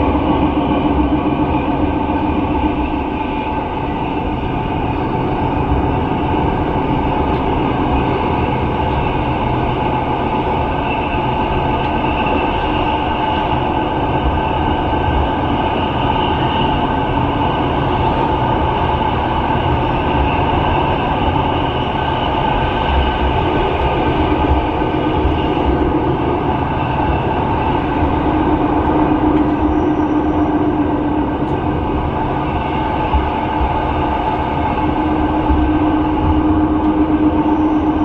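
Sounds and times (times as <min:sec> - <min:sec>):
constant whine: 0:00.0 - 0:38.0
train wheels rumbling on rail: 0:00.0 - 0:38.0.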